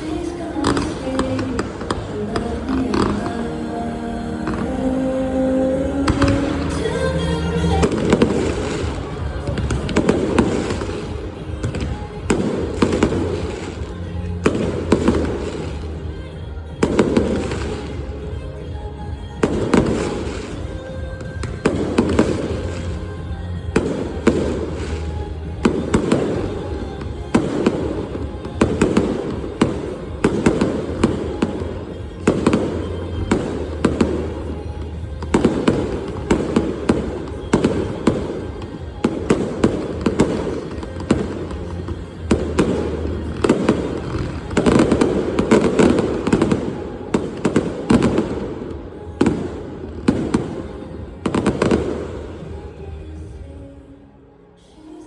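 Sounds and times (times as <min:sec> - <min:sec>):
fireworks bangs and crackle: 0:00.0 - 0:03.5, 0:06.0 - 0:53.3.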